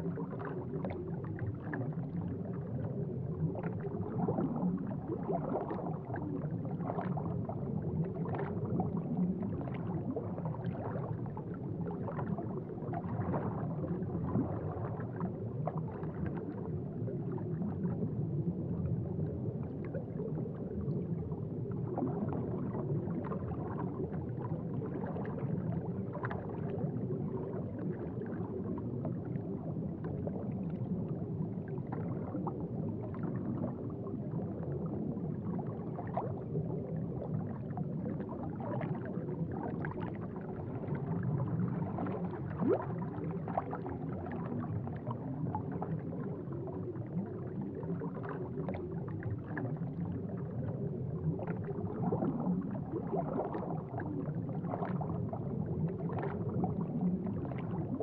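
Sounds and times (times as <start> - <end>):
aquarium water bubbling: 0.0 - 58.0.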